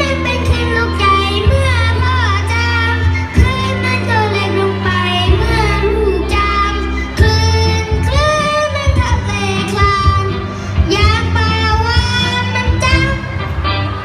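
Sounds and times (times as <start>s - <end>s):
child singing pop song: 0.0s - 13.6s
backing track with bass: 0.0s - 14.0s.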